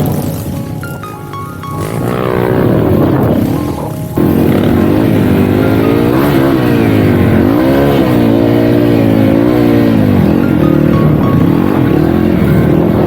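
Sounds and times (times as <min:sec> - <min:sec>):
dirt bike engine revving: 0:01.7 - 0:13.0.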